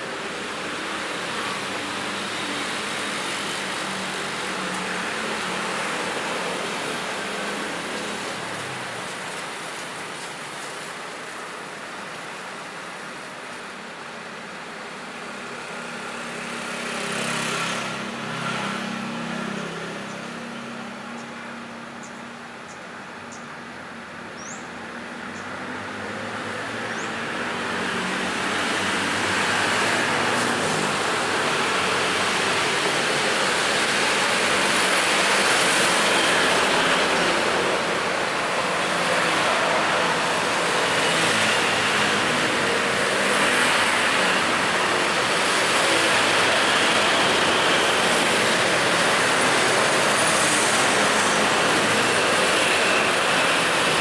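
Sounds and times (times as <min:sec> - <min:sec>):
busy road traffic: 0:00.0 - 0:54.0.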